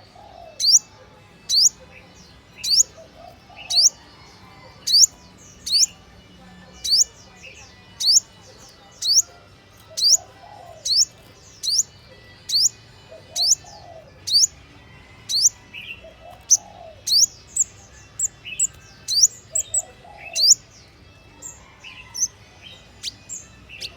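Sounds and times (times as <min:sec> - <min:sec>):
bird chirping: 0:00.0 - 0:06.0, 0:06.8 - 0:14.6, 0:15.3 - 0:21.2, 0:22.0 - 0:23.9.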